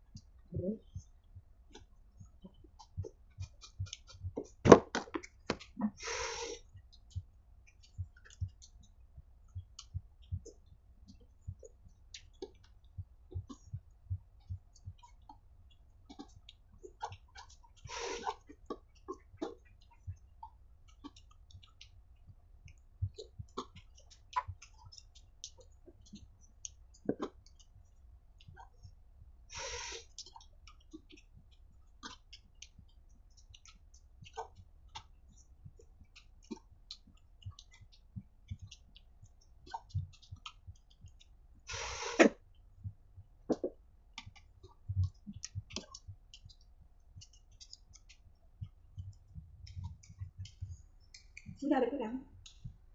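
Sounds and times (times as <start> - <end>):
wet mouth clicks and chewing: 0.0 - 6.0, 6.6 - 51.6, 52.3 - 52.9.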